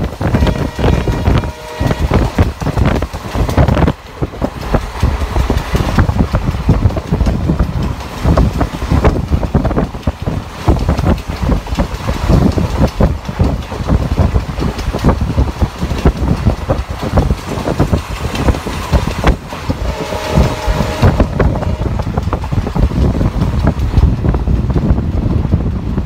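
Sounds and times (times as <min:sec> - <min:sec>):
train rumbling at speed: 0:00.0 - 0:26.0
rapid clattering knocks: 0:02.1 - 0:24.9.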